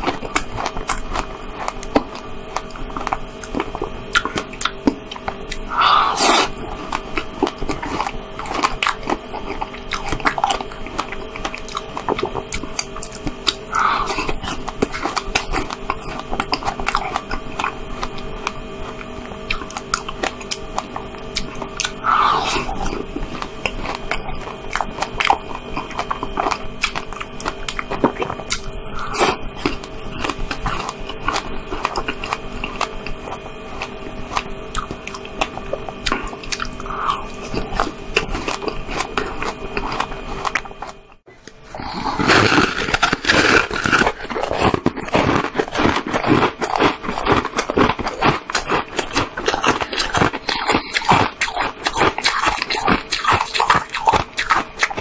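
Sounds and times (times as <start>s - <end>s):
chewing and biting: 0.0s - 55.0s.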